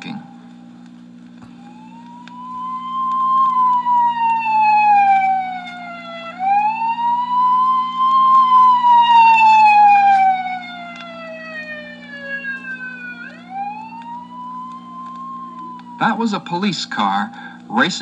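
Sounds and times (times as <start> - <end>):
steady low hum: 0.0 - 18.0
police siren wailing: 1.4 - 17.5.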